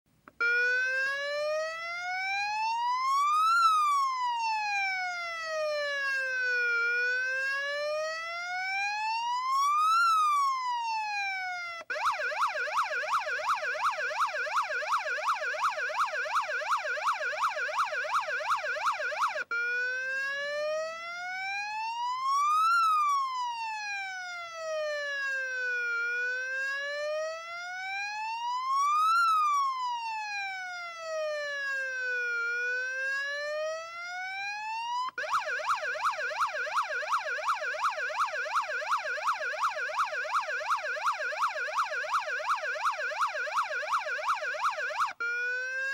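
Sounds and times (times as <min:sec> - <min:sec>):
police siren yelp and wail: 0:00.4 - 0:45.9.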